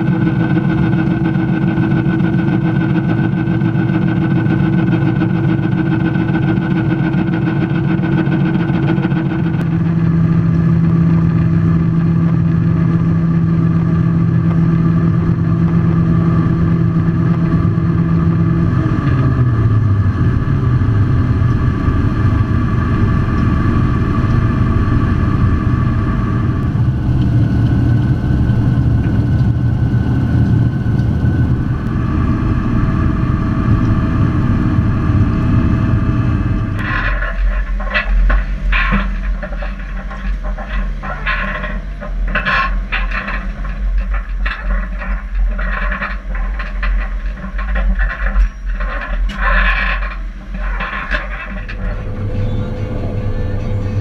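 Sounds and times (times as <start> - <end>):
combine harvester droning: 0.0 - 54.0.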